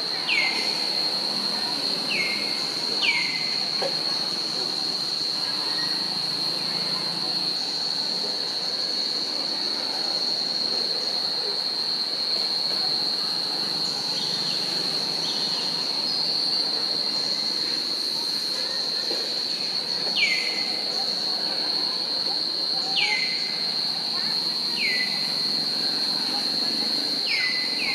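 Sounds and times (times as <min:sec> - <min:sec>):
cicadas droning: 0:00.0 - 0:27.9.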